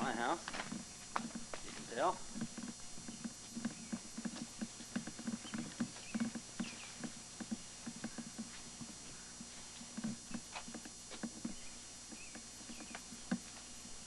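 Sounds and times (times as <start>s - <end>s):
footsteps walking outdoors: 0.0s - 14.0s.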